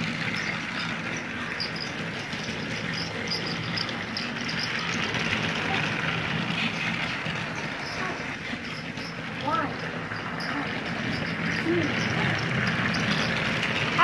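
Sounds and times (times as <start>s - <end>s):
toy train motor whirring: 0.0s - 14.0s.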